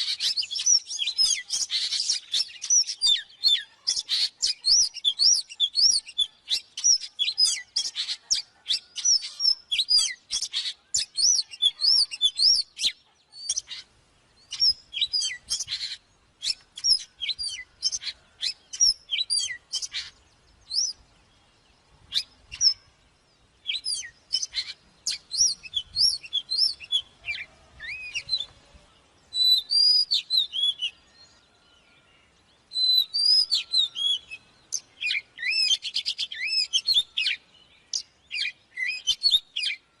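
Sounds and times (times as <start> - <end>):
magpie-robin singing: 0.0 - 28.6, 29.2 - 31.5, 32.3 - 40.0.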